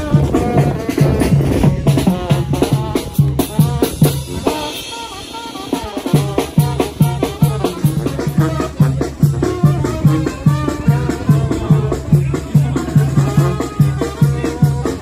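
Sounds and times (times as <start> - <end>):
low thumping bass beat: 0.0 - 4.8, 5.8 - 15.0
upbeat latin music: 0.0 - 15.0.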